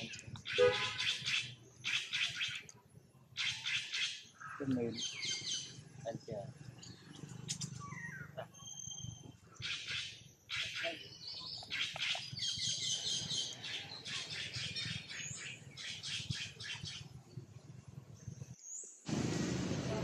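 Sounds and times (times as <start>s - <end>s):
high-pitched chirping calls: 0.0s - 17.2s.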